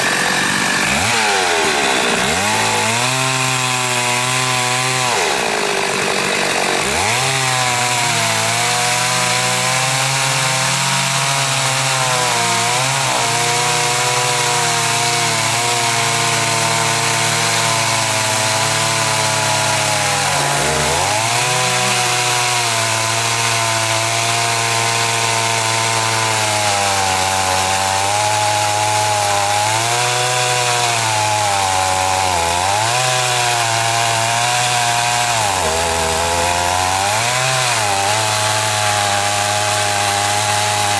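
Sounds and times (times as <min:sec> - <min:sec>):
chainsaw cutting tree: 0:00.0 - 0:40.9.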